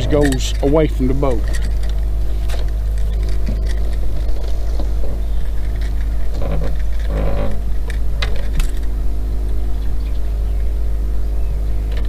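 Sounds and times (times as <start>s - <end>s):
boat motor hum: 0.0s - 12.0s.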